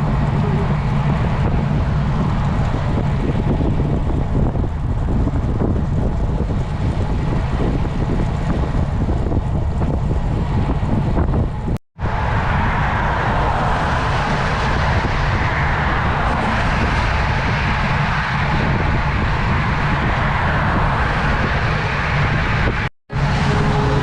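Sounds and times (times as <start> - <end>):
motorcycle engine and road rumble: 0.0 - 24.0
wind rushing over microphone: 0.0 - 24.0.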